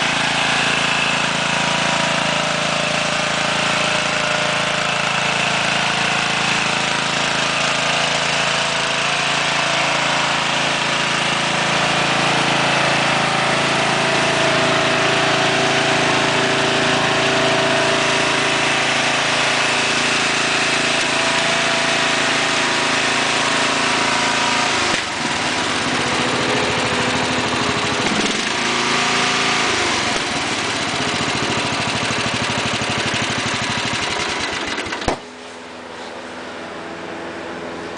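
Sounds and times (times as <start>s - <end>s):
riding lawn mower engine running: 0.0s - 37.9s.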